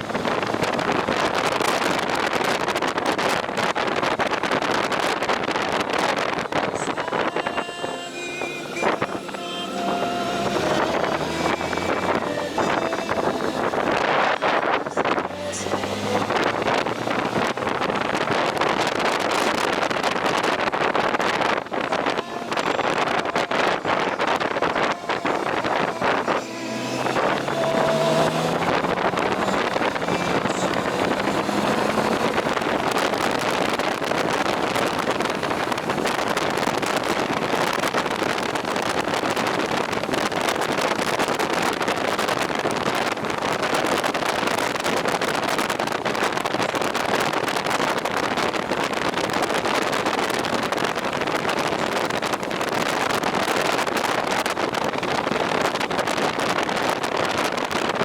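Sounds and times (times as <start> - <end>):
motorcycle engine accelerating: 0.0 - 7.7, 8.6 - 58.0
wind noise on microphone: 0.0 - 58.0.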